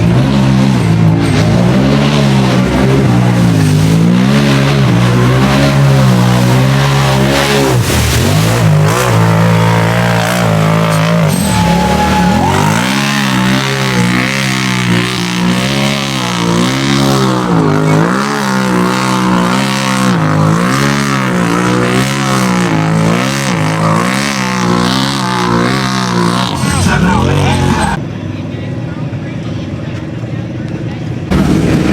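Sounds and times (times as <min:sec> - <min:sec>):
engine revving at high revs: 0:00.0 - 0:28.0.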